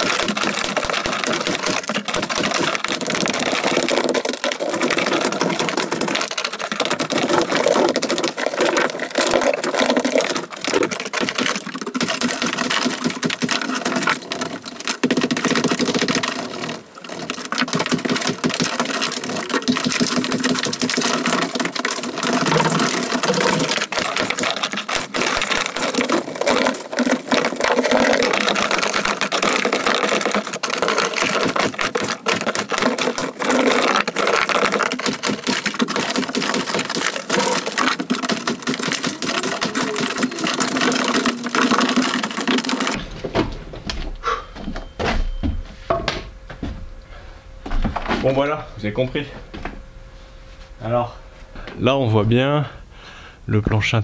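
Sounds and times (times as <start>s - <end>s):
bricks tumbling onto rubble: 0.0s - 44.2s.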